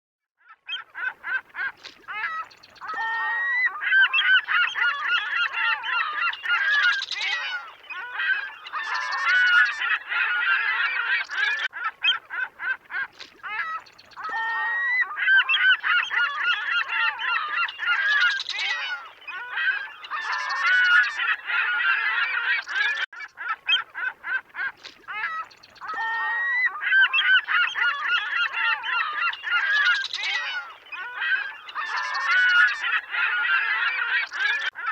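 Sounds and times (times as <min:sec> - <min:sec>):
waterfowl honking: 0:00.7 - 0:34.9.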